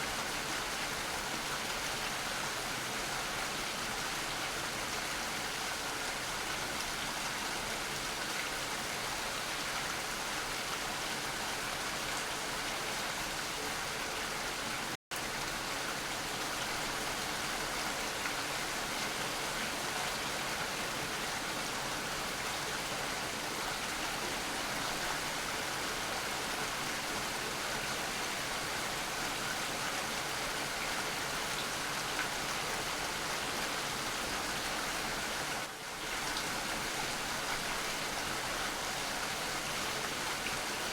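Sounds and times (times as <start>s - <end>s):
rain falling: 0.1s - 40.9s.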